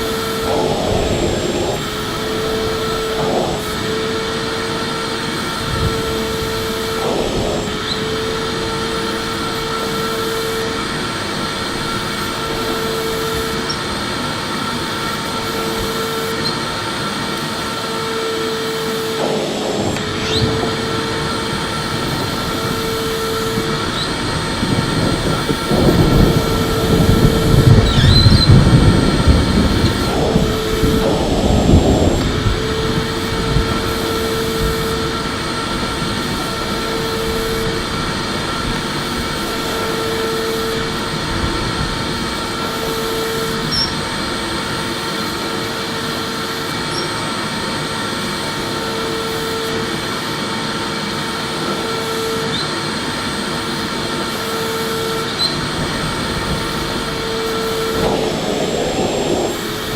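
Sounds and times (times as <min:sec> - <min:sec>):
vacuum cleaner whining: 0:00.0 - 0:59.9.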